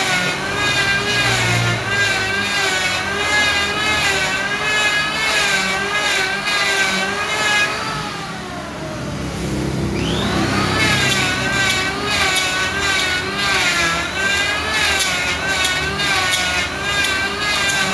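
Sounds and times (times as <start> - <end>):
electric hand planer whining: 0.0 - 17.9.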